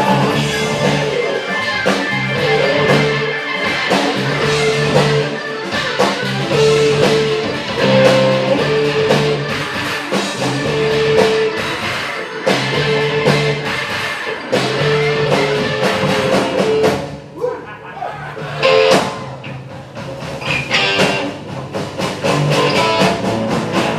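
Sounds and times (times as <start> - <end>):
rock band playing: 0.0 - 23.9.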